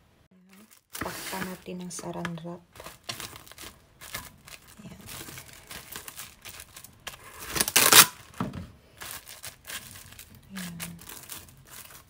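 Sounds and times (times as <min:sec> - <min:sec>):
plastic cling wrap crinkling: 0:00.4 - 0:12.0.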